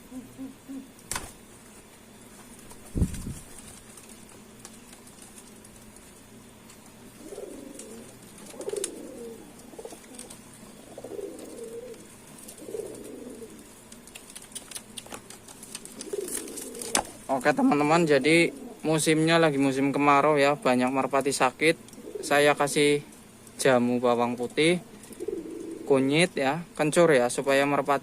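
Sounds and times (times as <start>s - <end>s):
pigeons cooing: 0.0s - 1.2s, 2.2s - 26.2s.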